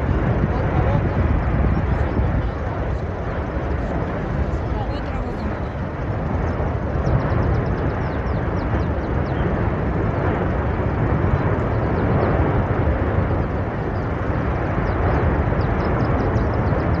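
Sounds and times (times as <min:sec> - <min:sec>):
volcano low rumble: 0:00.0 - 0:17.0.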